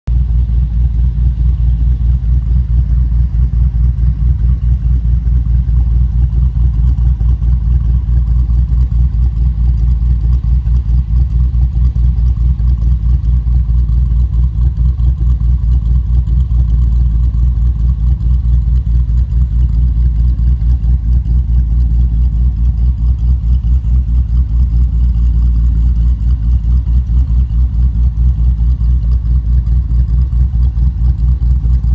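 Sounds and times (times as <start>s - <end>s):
car engine idling: 0.1s - 31.9s.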